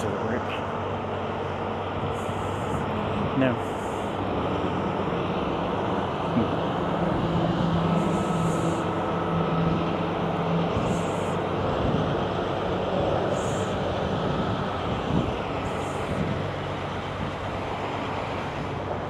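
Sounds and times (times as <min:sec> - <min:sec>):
road traffic noise: 0:00.0 - 0:19.0
vehicle engine hum: 0:00.0 - 0:19.0.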